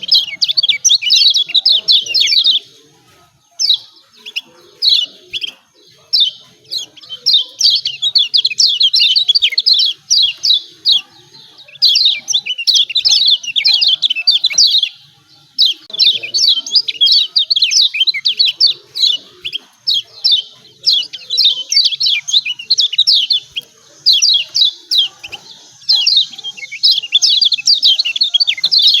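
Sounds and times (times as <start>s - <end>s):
white-eye chattering chirps: 0.0s - 29.0s.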